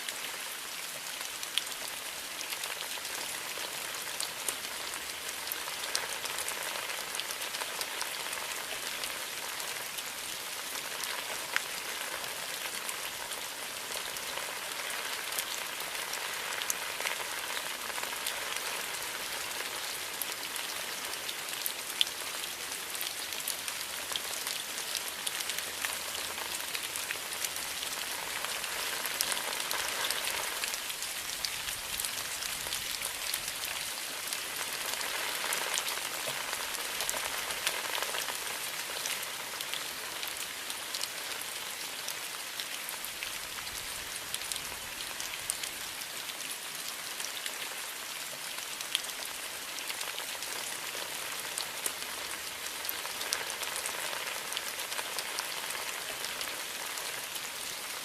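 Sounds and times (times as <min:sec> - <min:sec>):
rain on bamboo leaves: 0:00.0 - 0:58.0.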